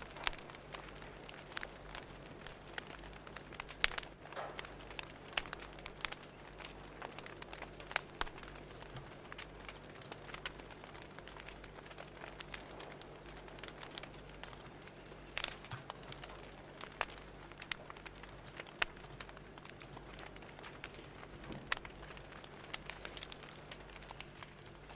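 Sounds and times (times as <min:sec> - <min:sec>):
low steady hiss: 0:00.0 - 0:24.9
wood fire crackling and popping: 0:00.0 - 0:24.9.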